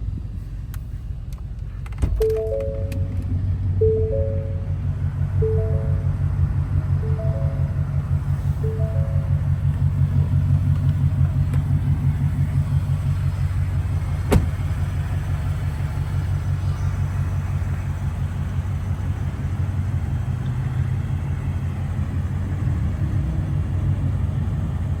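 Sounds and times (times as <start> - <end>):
car engine running: 1.2 - 25.0.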